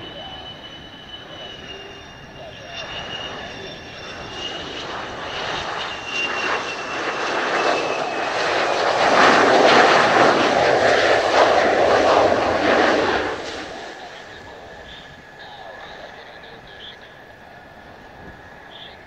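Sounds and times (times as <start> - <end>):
jet engine whine: 0.0 - 19.0
rushing jet noise: 0.0 - 19.0.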